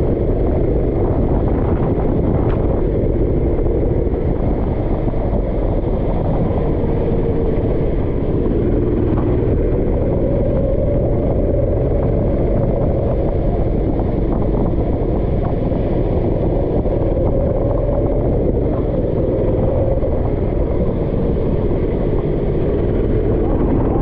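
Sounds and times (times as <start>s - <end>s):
go-kart engine running: 0.0s - 24.0s
heavy low rumble: 0.0s - 24.0s.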